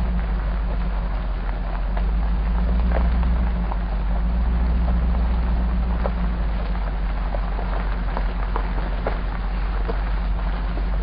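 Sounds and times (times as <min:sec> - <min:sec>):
engine drone while driving: 0:00.0 - 0:11.0
gravel ticks and body rattles: 0:00.0 - 0:11.0.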